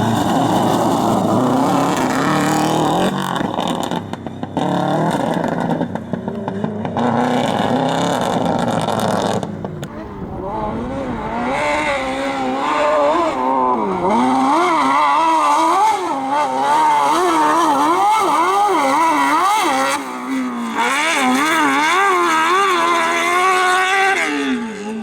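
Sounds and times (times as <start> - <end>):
competition engine revving hard: 0.0 - 4.0, 4.6 - 25.0.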